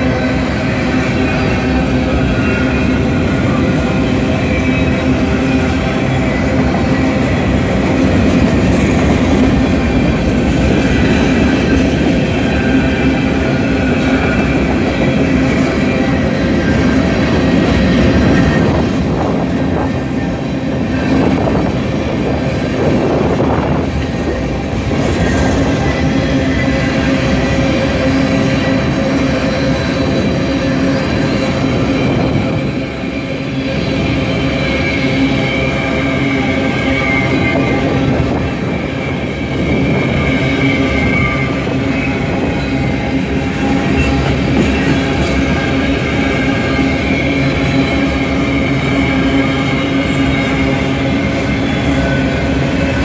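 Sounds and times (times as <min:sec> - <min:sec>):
freight train wheels rumbling: 0:00.0 - 0:53.0
steady drone: 0:00.0 - 0:53.0.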